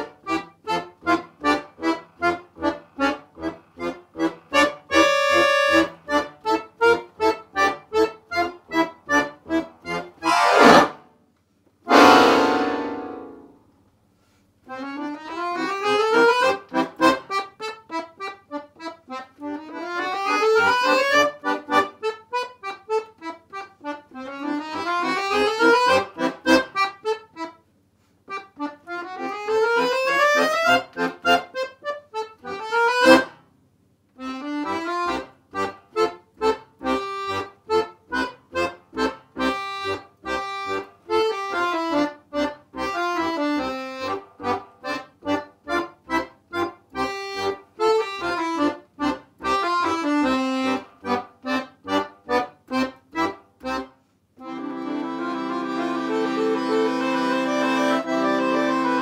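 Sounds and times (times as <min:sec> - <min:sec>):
accordion playing: 0:00.0 - 0:11.2, 0:11.8 - 0:13.7, 0:14.6 - 0:33.4, 0:34.2 - 0:59.0.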